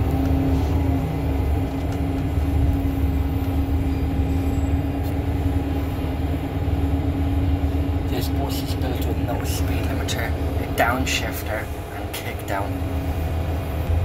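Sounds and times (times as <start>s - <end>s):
bus engine drone: 0.0s - 14.0s
constant drivetrain whine: 0.0s - 14.0s.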